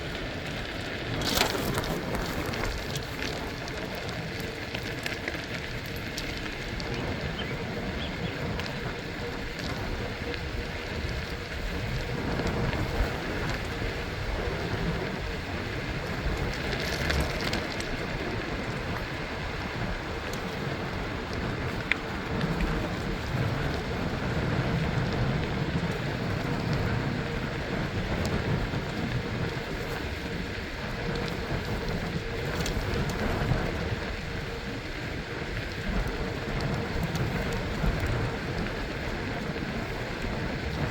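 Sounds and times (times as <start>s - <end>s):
tyres rolling on pavement: 0.0s - 40.9s
wind on microphone: 0.0s - 40.9s.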